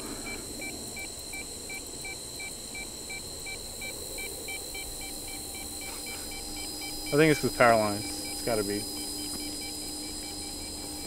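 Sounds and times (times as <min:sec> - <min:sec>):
meter beeping short beeps: 0:00.2 - 0:11.0.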